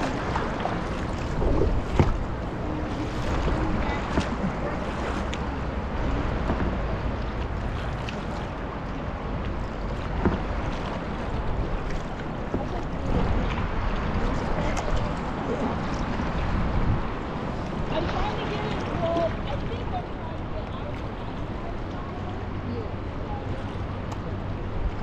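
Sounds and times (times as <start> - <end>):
paddle splashes: 0.0 - 25.0
river water rushing: 0.0 - 25.0
wind buffeting microphone: 0.0 - 25.0.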